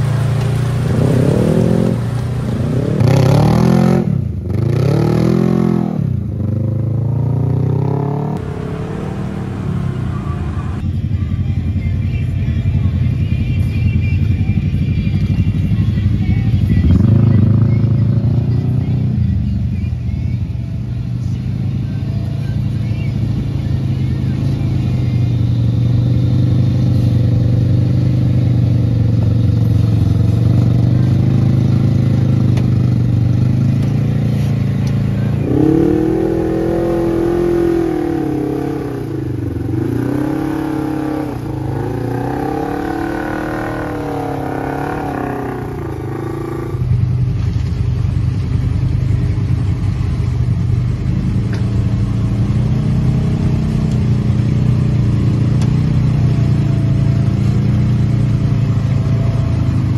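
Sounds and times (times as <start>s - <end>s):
utility vehicle engine revving: 0.0s - 11.0s, 21.2s - 59.9s.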